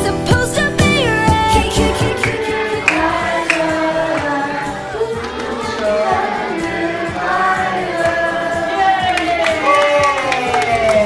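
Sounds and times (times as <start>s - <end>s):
group of voices singing together: 0.0s - 11.0s.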